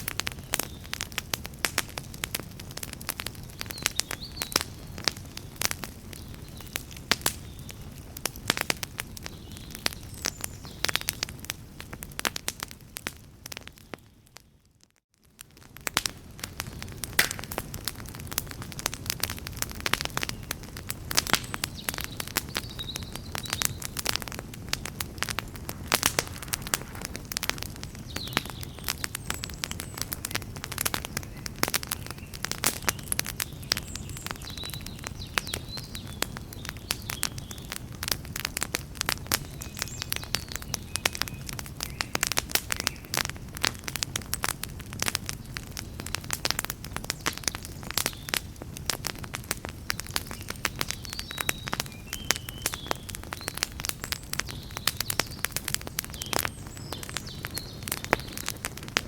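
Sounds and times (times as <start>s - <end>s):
campfire crackling and popping: 0.0s - 59.0s
low rumble of flame: 0.0s - 59.0s.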